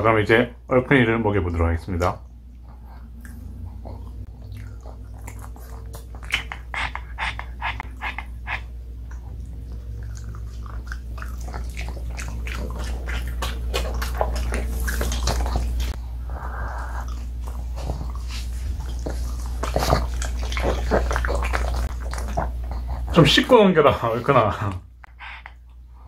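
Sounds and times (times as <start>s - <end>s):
steady low hum: 0.0s - 26.0s
dog chewing and smacking: 1.6s - 25.8s.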